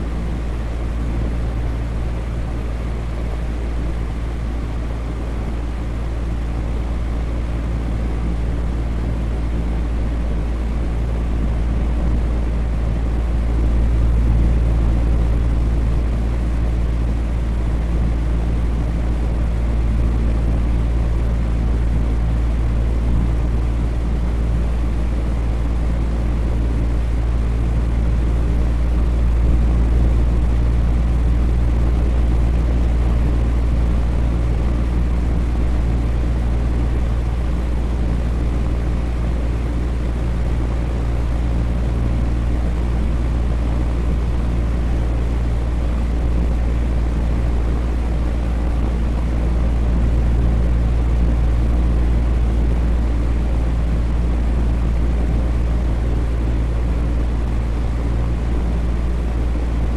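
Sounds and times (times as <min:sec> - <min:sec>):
fan rushing air: 0:00.0 - 0:59.9.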